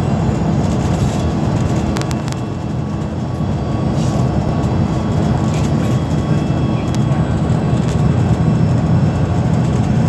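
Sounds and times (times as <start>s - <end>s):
low rumble of moving vehicle: 0.0s - 10.0s.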